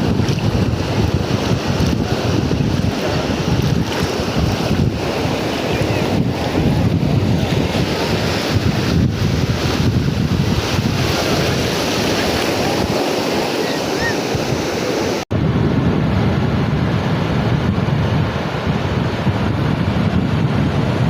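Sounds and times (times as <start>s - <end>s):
sea surf washing on beach: 0.0s - 21.0s
wind buffeting microphone: 0.0s - 21.0s.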